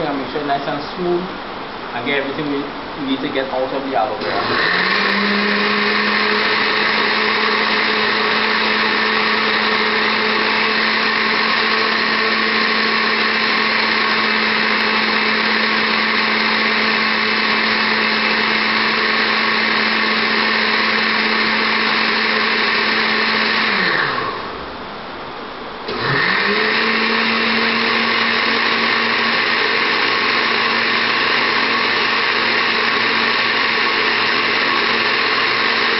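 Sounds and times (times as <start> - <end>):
blender motor running: 4.2 - 24.6, 25.9 - 35.9.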